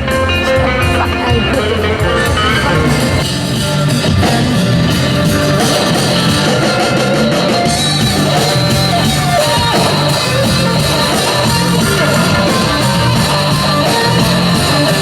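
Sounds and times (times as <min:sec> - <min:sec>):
electric guitar: 0:00.0 - 0:15.0
live rock band: 0:00.0 - 0:15.0.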